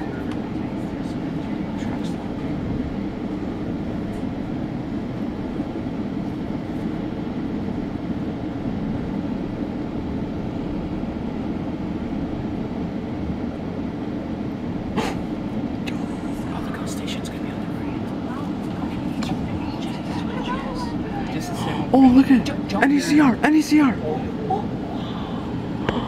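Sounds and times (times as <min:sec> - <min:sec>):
train coach rumbling: 0:00.0 - 0:26.0.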